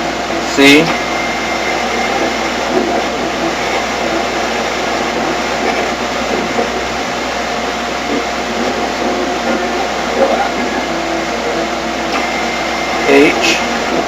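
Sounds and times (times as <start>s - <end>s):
radio static hiss: 0.0s - 14.0s
broken snatches of radio sound: 0.6s - 6.9s, 8.0s - 14.0s.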